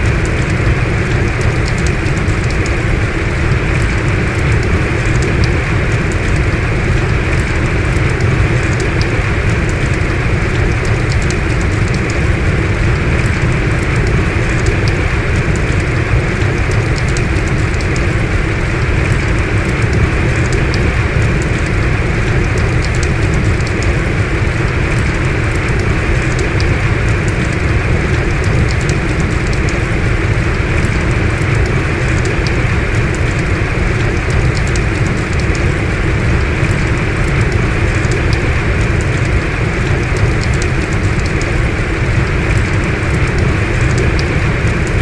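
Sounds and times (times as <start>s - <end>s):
faint rain patters: 0.0s - 45.0s
heavy rain falling: 0.0s - 45.0s.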